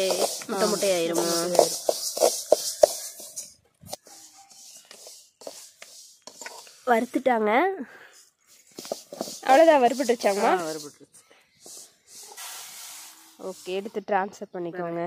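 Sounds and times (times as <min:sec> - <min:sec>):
ladle scraping seeds in a pan: 0:00.0 - 0:14.1.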